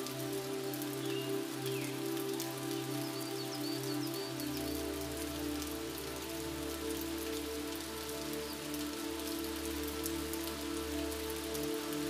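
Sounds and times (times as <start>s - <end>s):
soft musical drone: 0.0s - 12.0s
steady rainfall: 0.0s - 12.0s.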